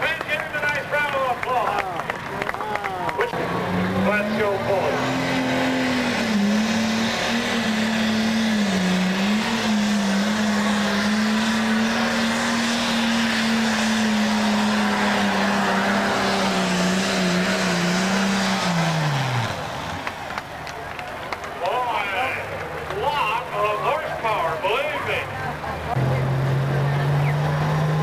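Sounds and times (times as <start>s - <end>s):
diesel tractor engine under load: 0.0s - 28.0s.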